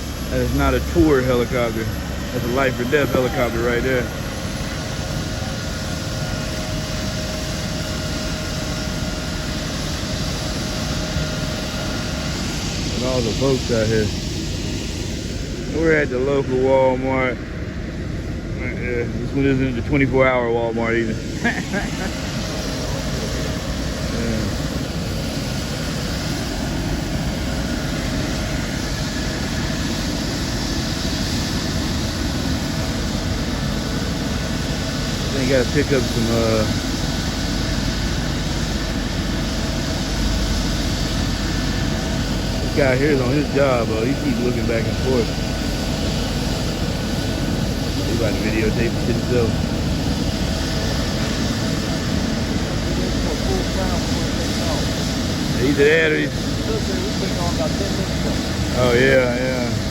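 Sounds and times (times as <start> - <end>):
faint steady whine: 0.0 - 59.9
helicopter turbine and rotor: 0.0 - 59.9.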